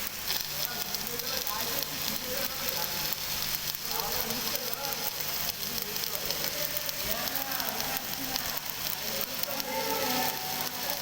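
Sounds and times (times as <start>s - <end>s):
welding arc crackling sizzle: 0.0s - 11.0s.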